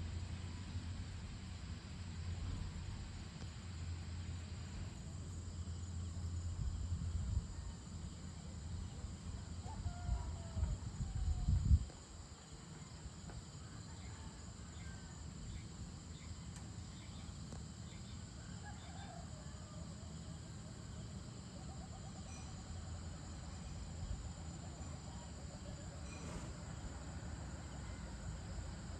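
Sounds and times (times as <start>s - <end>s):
insects chorus: 0.0s - 28.9s.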